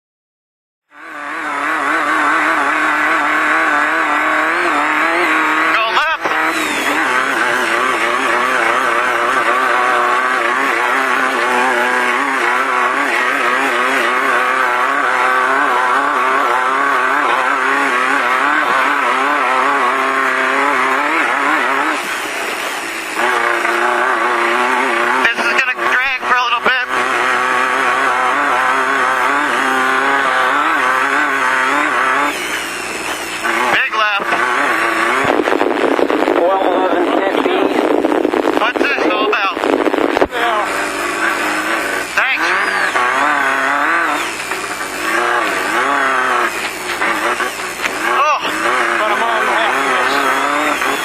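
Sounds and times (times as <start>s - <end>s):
race car engine revving: 0.8s - 51.0s.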